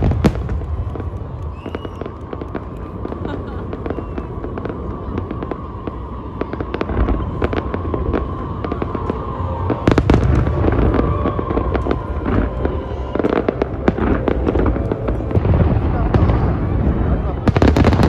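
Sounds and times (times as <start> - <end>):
fireworks crackling and booming: 0.0 - 18.0.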